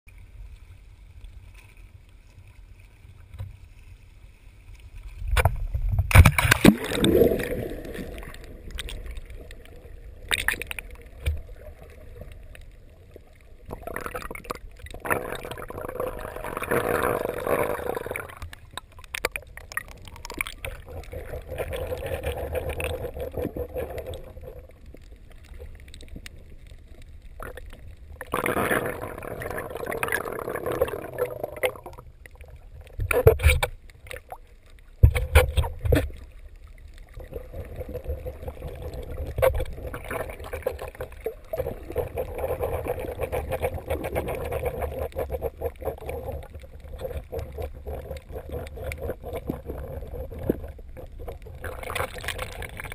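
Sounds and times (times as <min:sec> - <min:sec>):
muffled underwater sloshing: 0:00.1 - 0:52.9.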